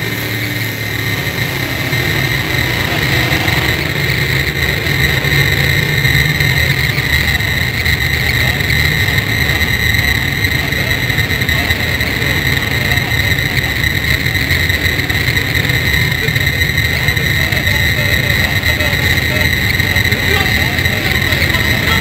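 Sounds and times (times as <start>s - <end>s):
constant buzzing tone: 0.0s - 22.0s
race car engines droning: 0.0s - 22.0s.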